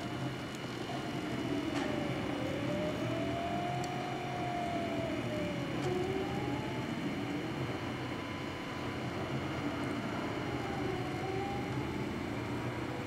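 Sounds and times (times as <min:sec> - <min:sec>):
cooling fans whirring: 0:00.0 - 0:13.0
stepper motors whining: 0:00.0 - 0:13.0.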